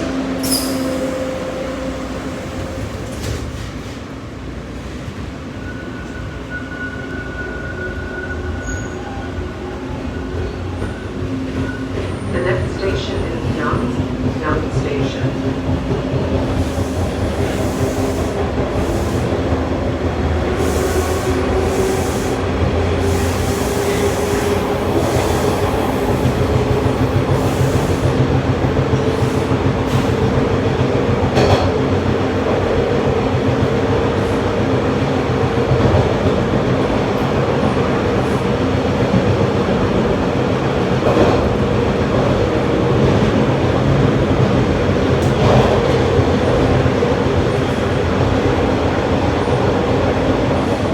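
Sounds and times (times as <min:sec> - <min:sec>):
subway wheels rumbling on track: 0:00.0 - 0:50.9.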